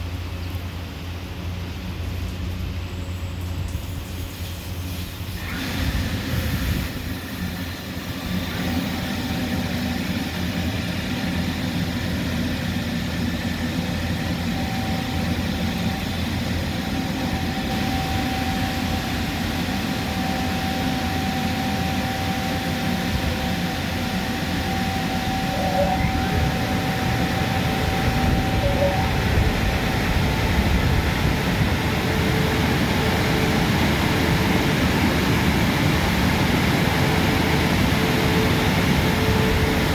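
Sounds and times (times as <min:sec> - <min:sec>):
automatic car wash running: 0:00.0 - 0:39.9
thin steady whine: 0:00.0 - 0:39.9.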